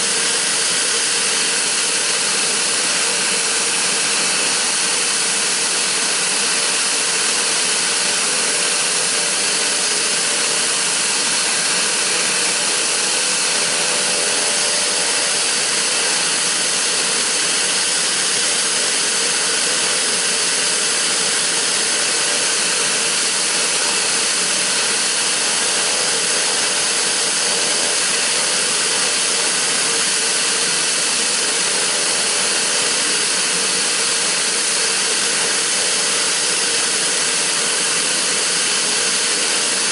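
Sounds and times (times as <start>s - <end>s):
turboprop engine running: 0.0s - 39.9s.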